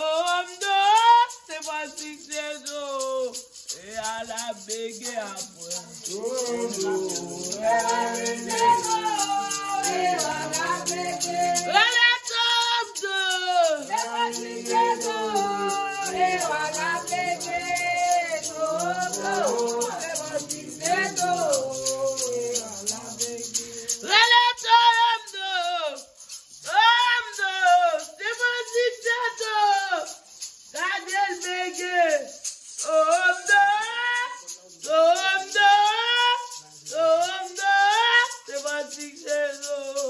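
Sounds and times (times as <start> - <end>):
woman singing a chant: 0.0 - 3.3, 5.4 - 40.0
hand rattle shaken: 0.0 - 40.0.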